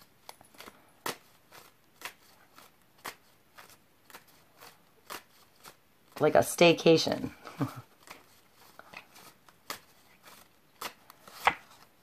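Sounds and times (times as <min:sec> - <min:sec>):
cards being shuffled by hand: 0:00.0 - 0:06.4, 0:07.2 - 0:12.0.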